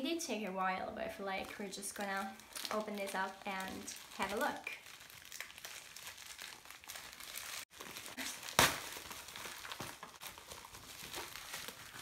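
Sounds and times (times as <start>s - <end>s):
plastic bag crinkling: 1.4s - 12.0s.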